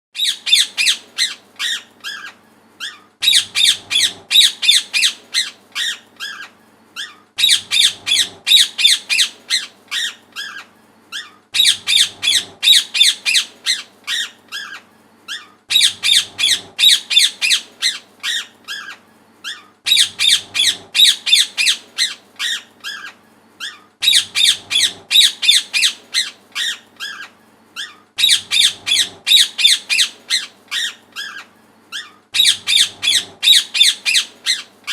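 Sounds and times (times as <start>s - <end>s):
parrot squawking: 0.2s - 34.9s.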